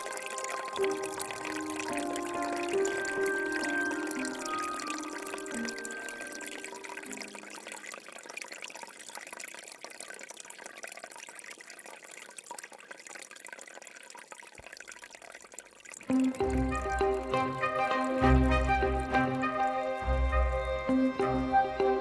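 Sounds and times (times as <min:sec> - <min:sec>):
aquarium water trickling and bubbling: 0:00.0 - 0:22.0.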